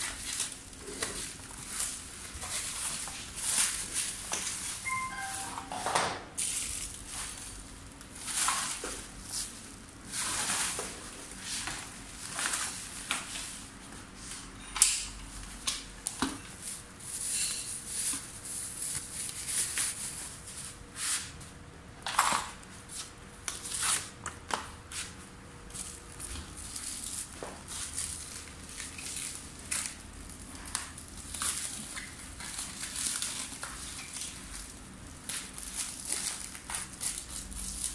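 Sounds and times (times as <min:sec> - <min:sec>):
packaging rustling and crinkling: 0:00.0 - 0:05.4, 0:06.4 - 0:14.3, 0:15.3 - 0:20.8, 0:25.0 - 0:37.9.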